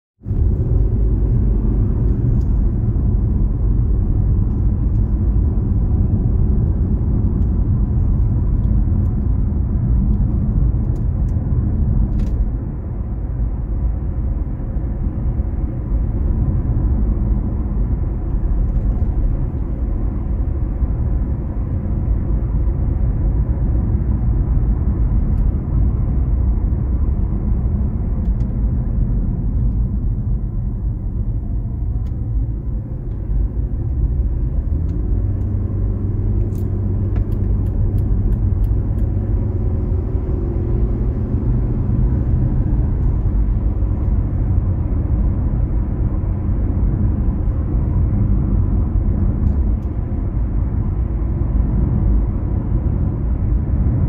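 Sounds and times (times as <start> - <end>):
vehicle engine rumbling: 0.2 - 54.0.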